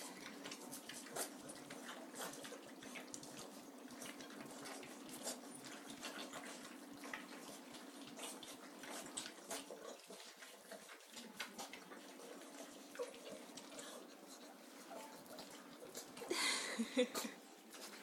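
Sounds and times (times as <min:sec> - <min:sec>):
puppies smacking and lapping food: 0:00.0 - 0:18.0.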